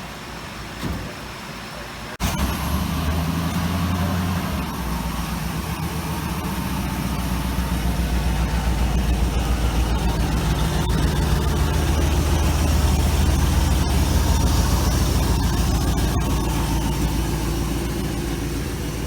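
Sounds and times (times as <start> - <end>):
car engine idling: 2.2 - 19.0.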